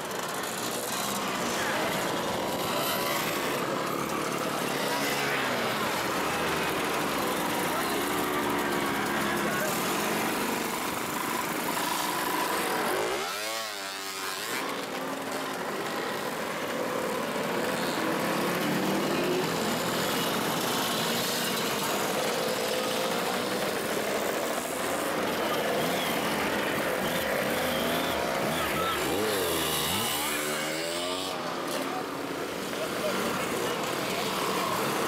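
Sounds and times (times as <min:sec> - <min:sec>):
motor scooters riding past: 0:00.0 - 0:35.0.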